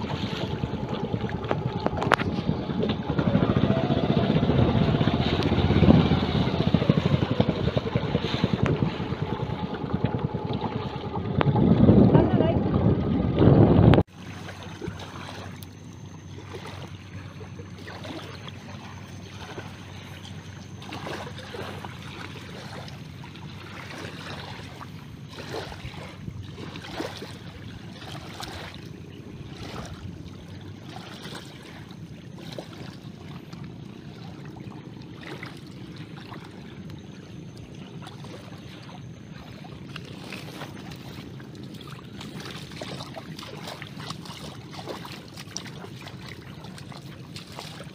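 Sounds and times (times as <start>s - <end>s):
feet splashing through water: 0.0s - 12.5s, 14.0s - 47.9s.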